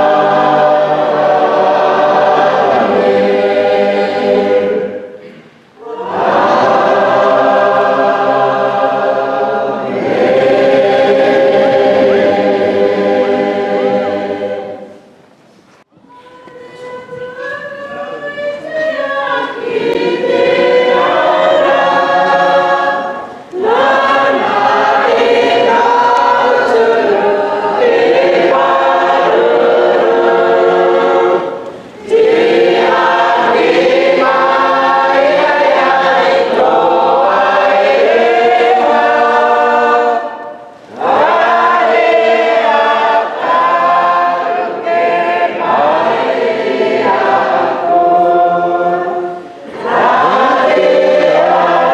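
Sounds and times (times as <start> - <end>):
choir singing a hymn: 0.0 - 15.2, 16.1 - 51.9.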